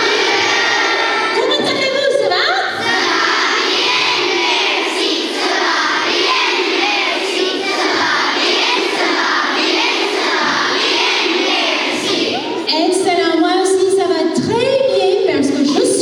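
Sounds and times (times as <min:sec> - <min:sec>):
children answering in unison: 0:00.0 - 0:01.7, 0:02.6 - 0:13.0, 0:15.1 - 0:16.0.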